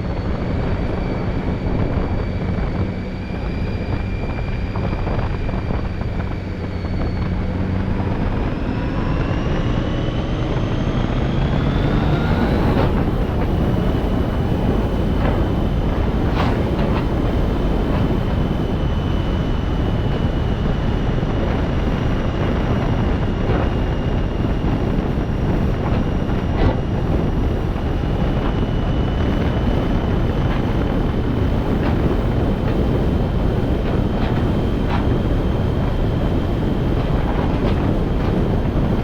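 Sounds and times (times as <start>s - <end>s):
vehicle engine and road noise: 0.0s - 39.0s
wind on microphone: 0.0s - 39.0s.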